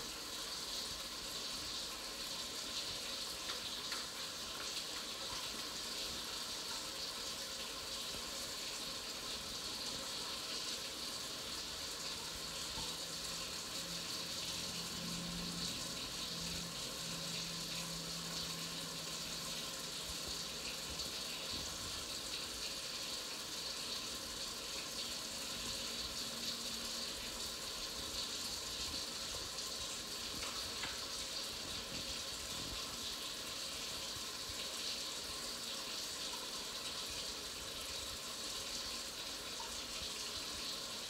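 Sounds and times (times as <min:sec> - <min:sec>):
food sizzling in a pan: 0:00.0 - 0:41.0.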